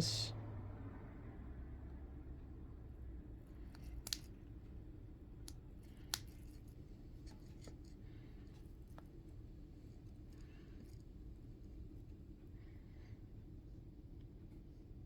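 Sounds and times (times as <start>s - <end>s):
faint steady hum: 0.0s - 1.2s, 2.4s - 15.0s.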